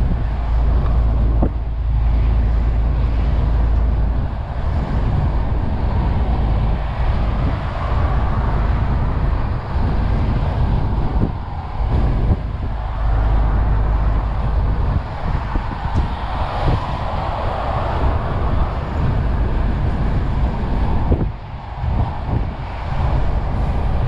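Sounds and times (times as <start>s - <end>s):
diesel truck engine drone: 0.0s - 24.0s
tyre and wind noise: 0.0s - 24.0s.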